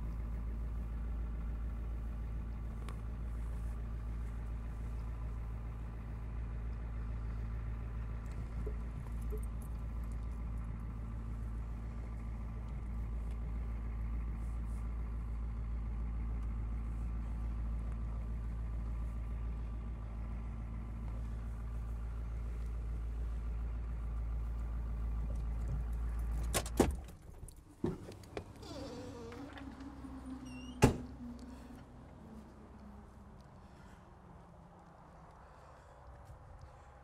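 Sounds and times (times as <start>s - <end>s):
pickup truck engine running: 0.0s - 33.9s.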